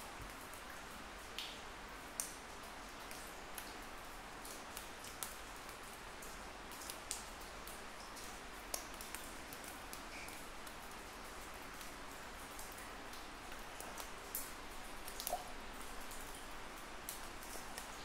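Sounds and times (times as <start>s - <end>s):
faint steady hiss: 0.0s - 18.0s
water dripping in a cave: 0.0s - 18.0s.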